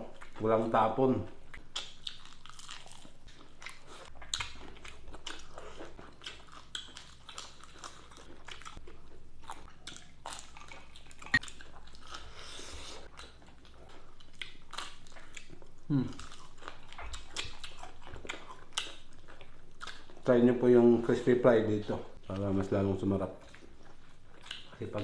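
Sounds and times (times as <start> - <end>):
crunching and chewing crispy food: 0.1 - 21.3, 22.3 - 25.0.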